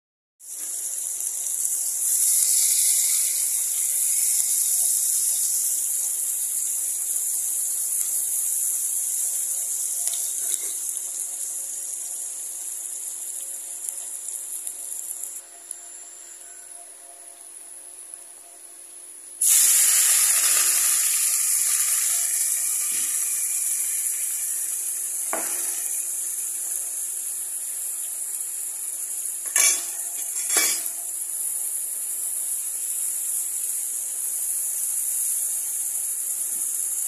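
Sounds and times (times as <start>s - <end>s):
food sizzling in hot oil: 0.4s - 16.7s, 19.4s - 37.0s
faint steady hum: 0.5s - 37.0s.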